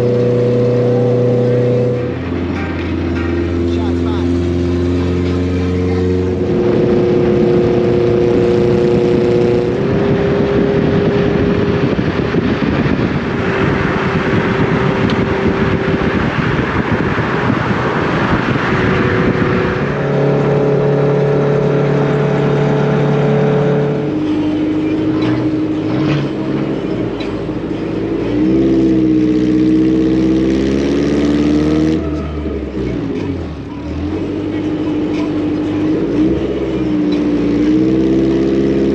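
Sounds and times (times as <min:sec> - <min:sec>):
car engine: 0:00.0 - 0:38.9
tyre and road noise: 0:00.0 - 0:38.9.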